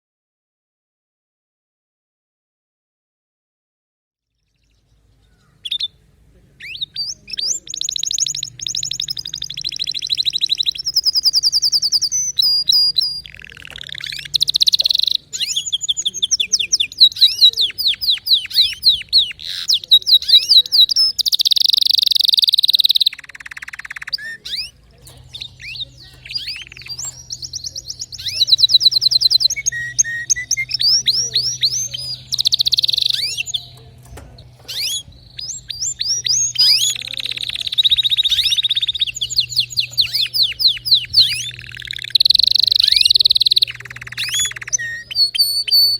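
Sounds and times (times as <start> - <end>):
canary singing trills: 4.4 - 45.9.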